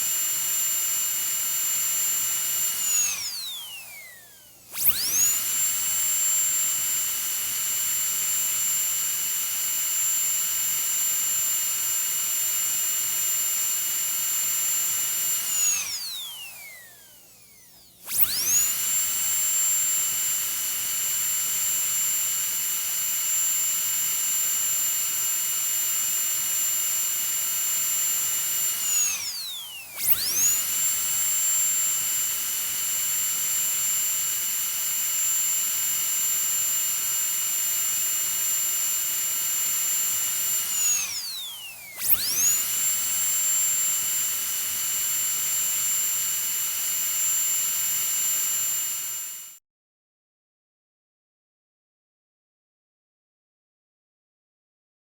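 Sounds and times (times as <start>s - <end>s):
dentist's drill whining: 0.0s - 49.6s.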